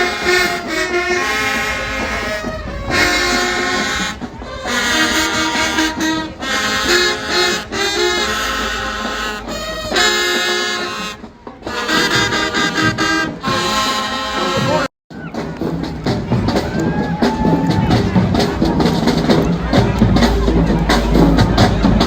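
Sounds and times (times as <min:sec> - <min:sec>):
brass band holding loud notes: 0:00.0 - 0:22.0.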